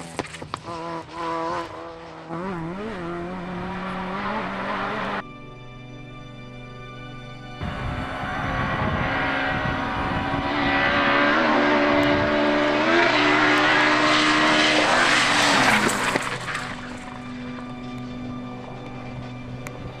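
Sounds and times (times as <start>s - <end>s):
rally car engine at full throttle: 0.0s - 5.2s, 7.5s - 20.0s.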